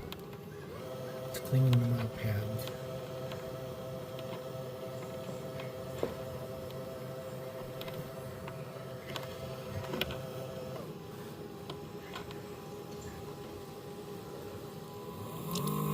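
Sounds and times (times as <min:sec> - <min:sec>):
motor whine: 0:00.0 - 0:15.9.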